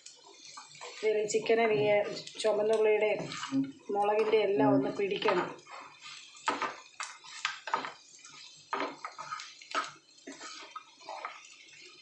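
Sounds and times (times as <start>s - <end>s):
food sizzling: 0.0s - 12.0s
wooden spatula scraping pan: 0.2s - 12.0s.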